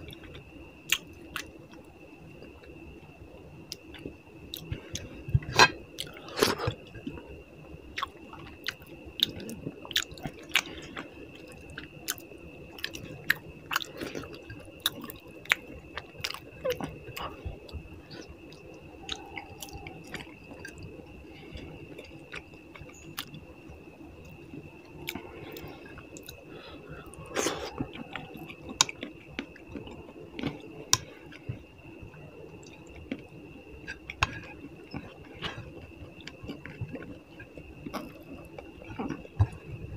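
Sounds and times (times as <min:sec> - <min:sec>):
person chewing food: 0:03.7 - 0:07.3, 0:07.9 - 0:39.7.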